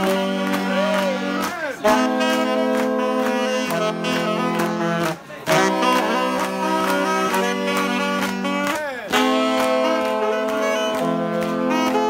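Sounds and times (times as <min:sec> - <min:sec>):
saxophone ensemble playing chords: 0:00.0 - 0:12.0.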